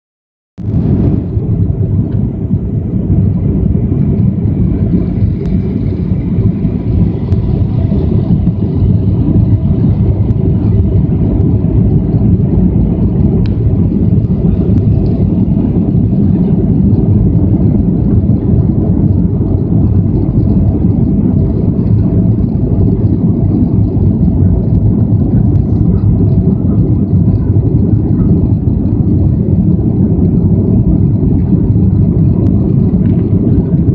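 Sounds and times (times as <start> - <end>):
jet engines rumbling: 0.6 - 33.9
rushing air: 0.6 - 33.9.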